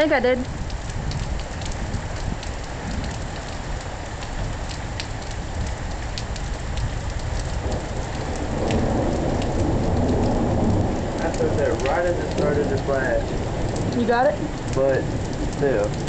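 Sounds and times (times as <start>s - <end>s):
heavy rain: 0.0s - 16.0s
raindrops ticking close by: 0.0s - 16.0s
thunder rumbling: 0.0s - 16.0s.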